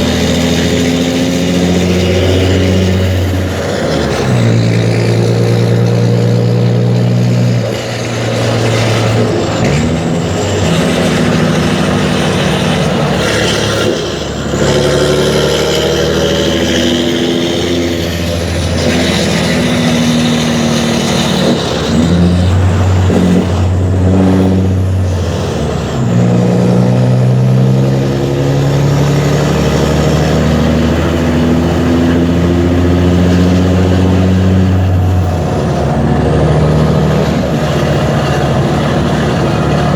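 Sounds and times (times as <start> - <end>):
diesel truck engine pulling under load: 0.0 - 39.9.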